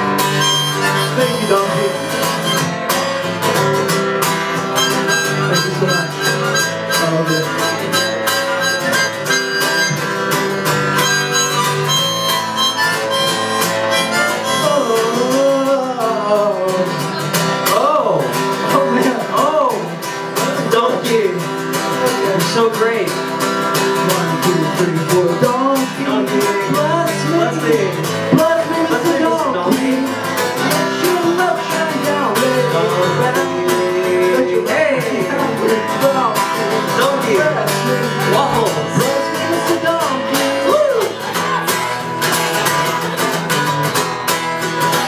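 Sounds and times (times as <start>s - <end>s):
person singing: 0.0s - 43.6s
acoustic guitar strumming: 0.0s - 45.0s.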